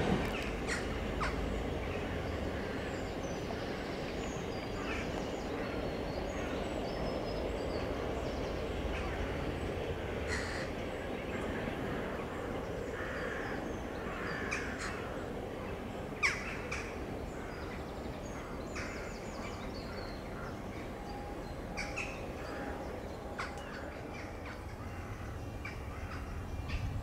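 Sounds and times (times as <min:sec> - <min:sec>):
birds calling: 0:00.2 - 0:27.0.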